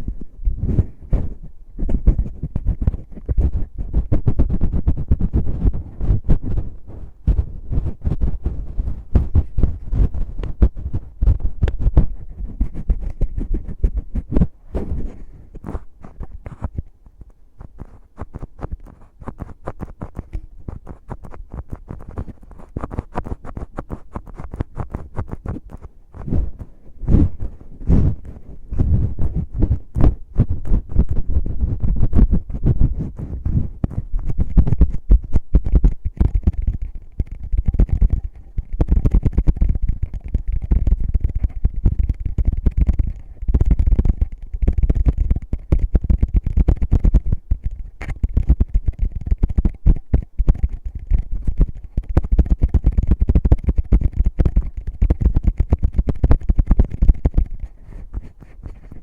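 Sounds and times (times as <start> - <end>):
fingertips rubbing on microphone: 0.0 - 59.0.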